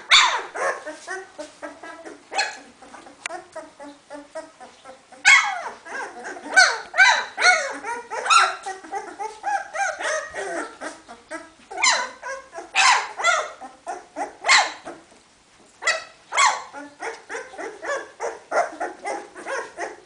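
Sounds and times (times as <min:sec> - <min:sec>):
puppies squealing and whining: 0:00.0 - 0:15.2, 0:15.8 - 0:20.0.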